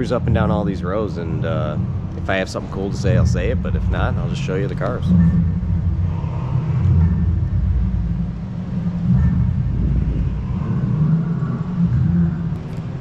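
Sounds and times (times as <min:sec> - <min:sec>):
scooter rumbling along: 0:00.0 - 0:13.0.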